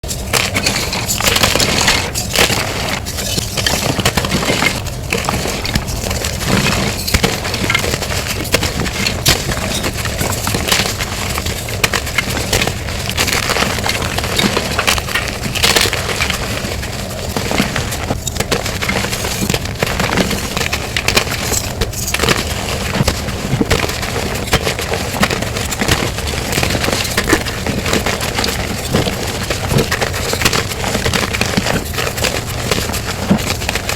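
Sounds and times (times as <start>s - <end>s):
chalk crushing and crunching: 0.0s - 33.9s.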